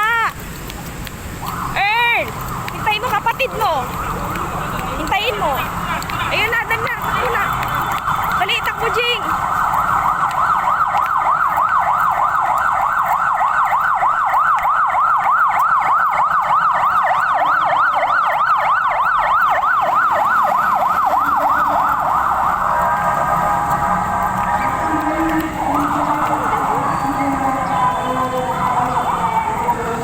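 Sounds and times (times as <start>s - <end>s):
warbling siren: 1.3s - 30.0s.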